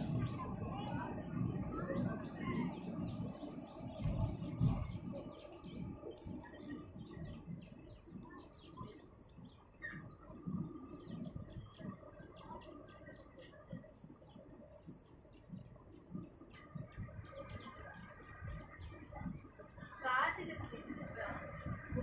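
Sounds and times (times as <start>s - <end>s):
low uneven rumble: 0.0s - 22.0s
small birds chirping: 0.0s - 22.0s.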